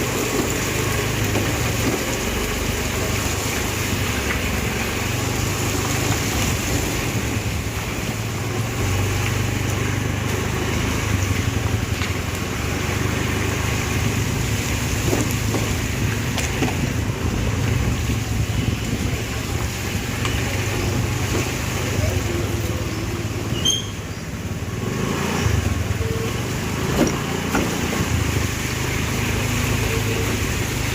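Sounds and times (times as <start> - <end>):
street traffic noise: 0.0 - 30.9.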